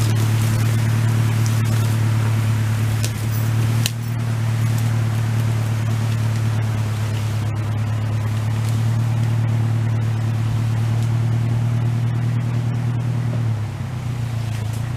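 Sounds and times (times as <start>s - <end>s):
engine droning: 0.0s - 14.9s.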